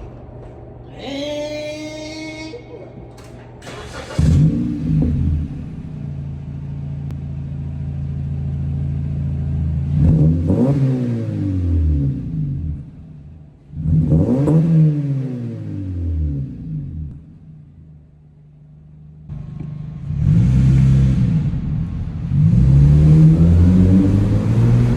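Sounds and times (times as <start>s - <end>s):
car engine idling and revving: 3.6s - 24.9s.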